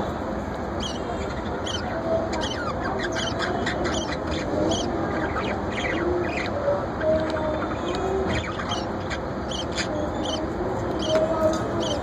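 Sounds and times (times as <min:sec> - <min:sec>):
small birds chirping: 0:00.6 - 0:12.0.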